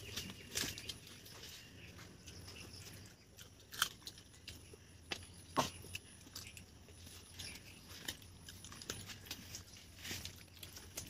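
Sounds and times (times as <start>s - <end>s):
faint eating clicks and crunches: 0.0s - 11.0s.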